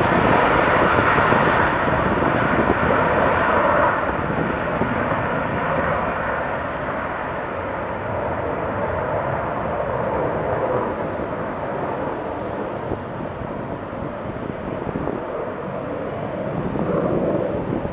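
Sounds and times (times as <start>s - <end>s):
jet engine roar: 0.0s - 17.9s.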